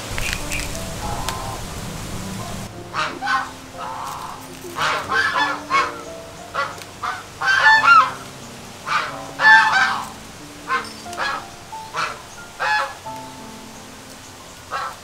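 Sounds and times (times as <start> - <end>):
fowl calling: 0.2 - 13.6, 14.7 - 15.0.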